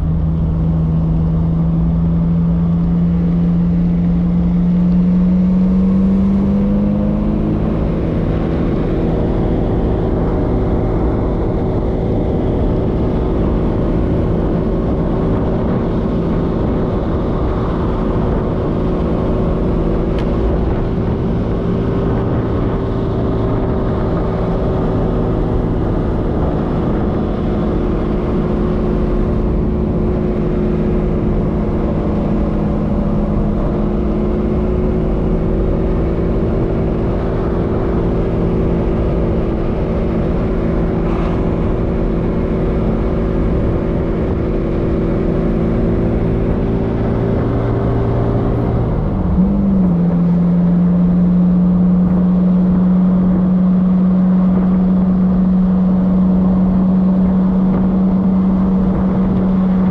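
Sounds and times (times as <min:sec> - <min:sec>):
car engine cruising: 0:00.0 - 0:59.9
road and wind noise: 0:00.0 - 0:59.9.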